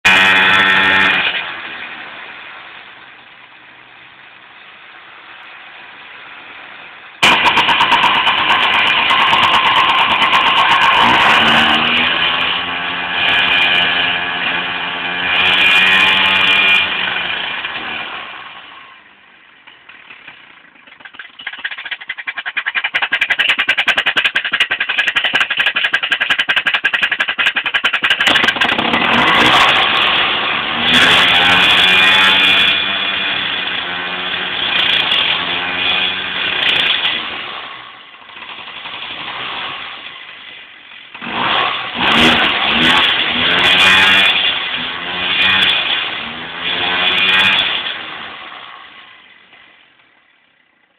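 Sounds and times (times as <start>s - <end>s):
small engine revving: 0.0s - 2.1s, 7.2s - 19.0s, 19.9s - 49.8s.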